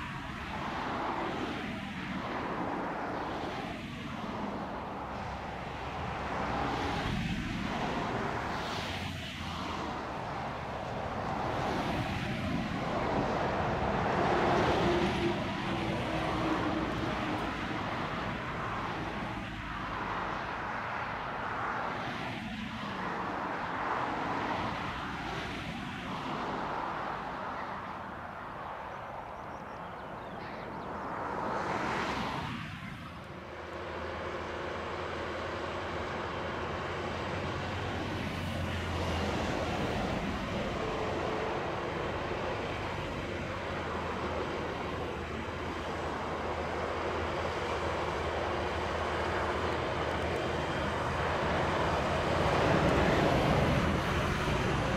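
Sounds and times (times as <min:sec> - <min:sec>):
tractor diesel engine drone: 0:00.0 - 0:29.0, 0:29.8 - 0:54.9.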